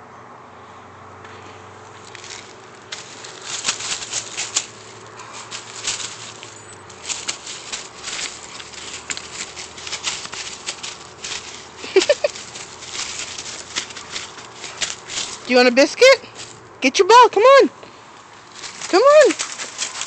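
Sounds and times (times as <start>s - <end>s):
dry leaves crackling and rustling: 1.7s - 20.0s.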